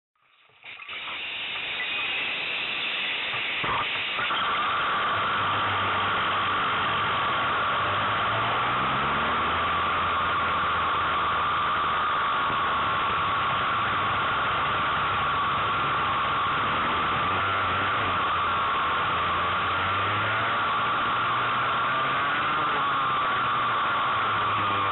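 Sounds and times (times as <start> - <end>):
kart engine running: 0.7 - 24.9.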